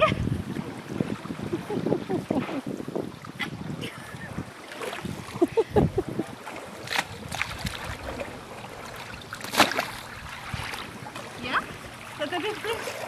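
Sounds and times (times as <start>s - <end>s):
water lapping at a shore: 0.0s - 13.0s.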